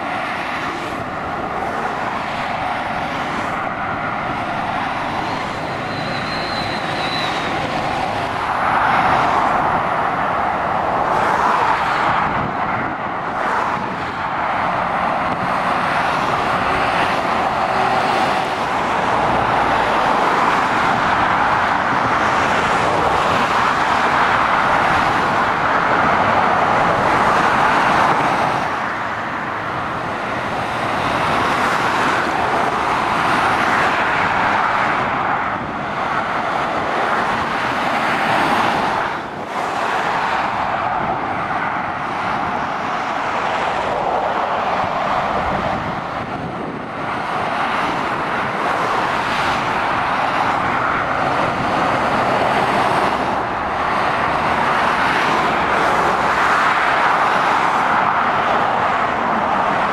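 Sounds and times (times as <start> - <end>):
road traffic passing: 0.0 - 59.9.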